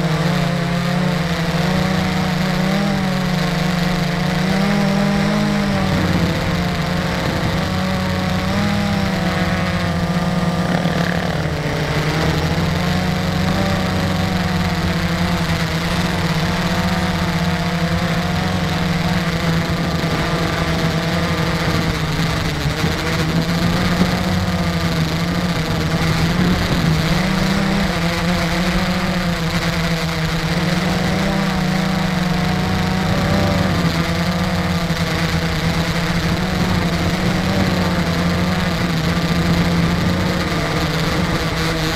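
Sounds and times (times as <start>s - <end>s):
drone propellers humming: 0.0s - 41.9s.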